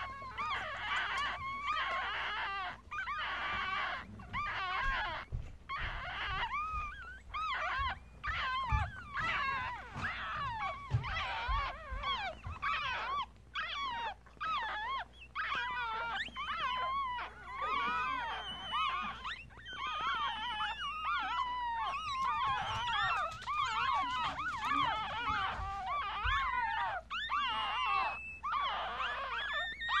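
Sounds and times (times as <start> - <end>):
puppies squeaking and whimpering: 0.0 - 30.0.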